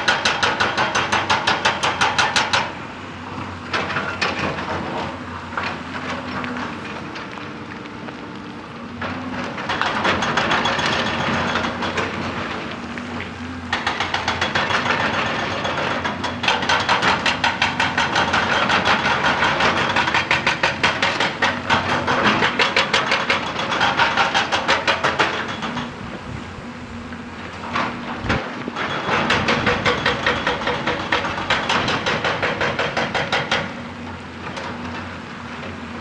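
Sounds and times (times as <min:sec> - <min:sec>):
hydraulic breaker hammering rock: 0:00.0 - 0:26.6, 0:27.4 - 0:36.0
diesel engine under load: 0:00.0 - 0:36.0.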